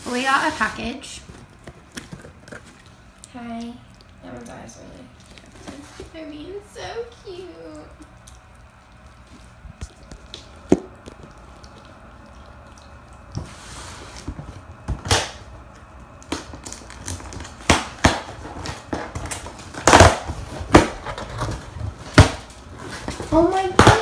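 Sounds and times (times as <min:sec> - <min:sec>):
rustling and crinkling: 0:00.0 - 0:15.0, 0:16.0 - 0:24.0.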